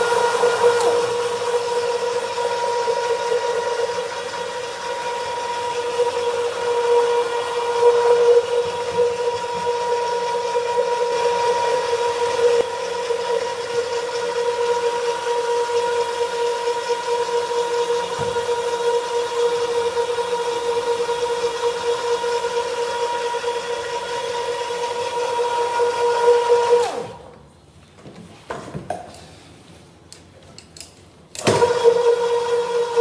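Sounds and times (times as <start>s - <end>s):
cleaning machine motor whine: 0.0s - 27.4s, 31.4s - 33.0s.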